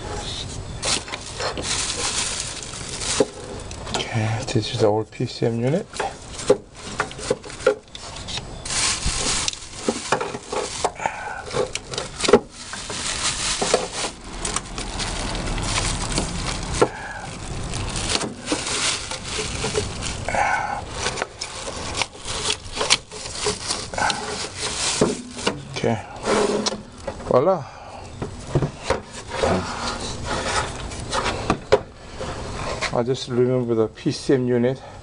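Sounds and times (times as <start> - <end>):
plastic and wiring scraping: 0.0 - 4.6, 5.6 - 27.4, 28.3 - 33.2.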